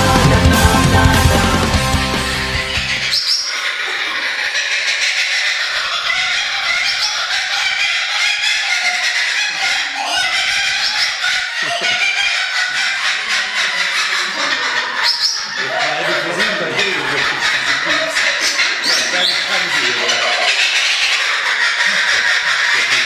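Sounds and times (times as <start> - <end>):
kookaburra laughing call: 2.4 - 23.0.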